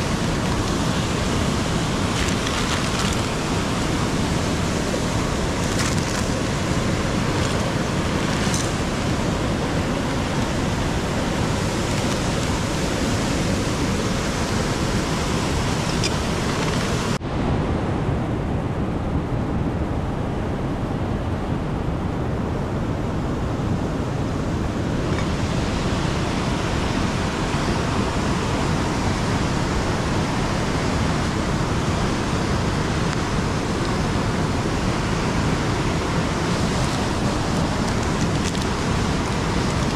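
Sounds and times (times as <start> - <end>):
river flowing over rocks: 0.0 - 17.2, 23.1 - 39.9.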